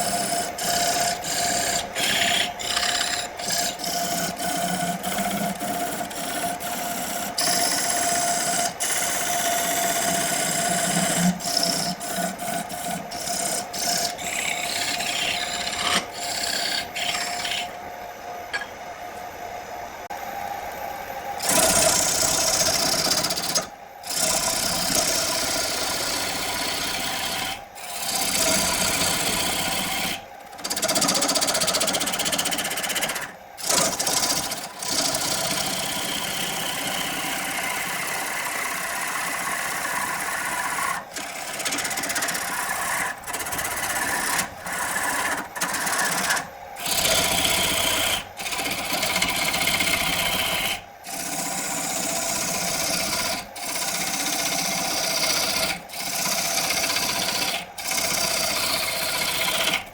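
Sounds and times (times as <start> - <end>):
power tool working wood: 0.0 - 17.8, 21.4 - 59.9.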